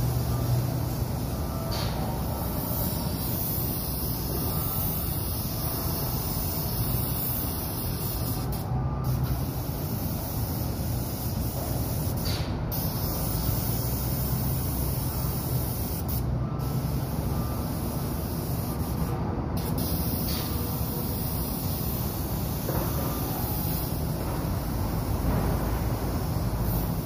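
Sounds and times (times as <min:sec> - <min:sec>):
paint spray gun hissing: 0:00.0 - 0:24.2.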